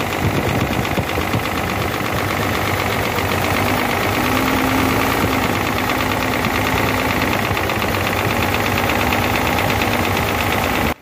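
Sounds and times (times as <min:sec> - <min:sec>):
diesel engine knocking: 0:00.0 - 0:11.0.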